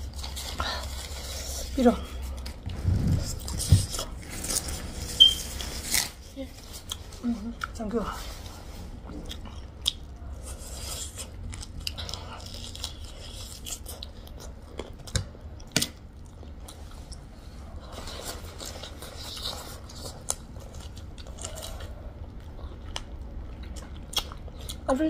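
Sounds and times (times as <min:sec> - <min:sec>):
person chewing: 0:00.0 - 0:07.8, 0:08.4 - 0:24.9.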